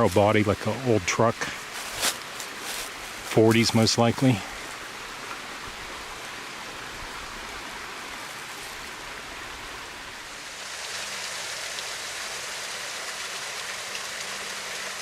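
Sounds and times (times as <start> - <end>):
waterfall and stream running: 0.0 - 15.0.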